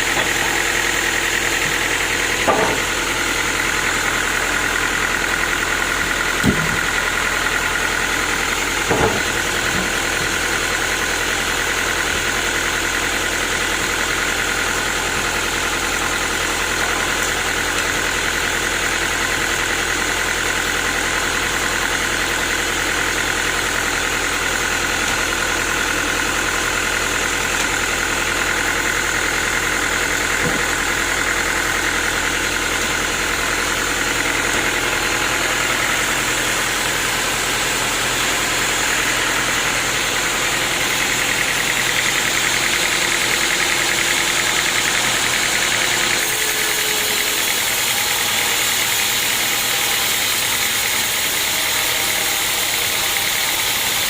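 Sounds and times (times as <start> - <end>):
sawmill machinery drone and hiss: 0.0 - 54.0.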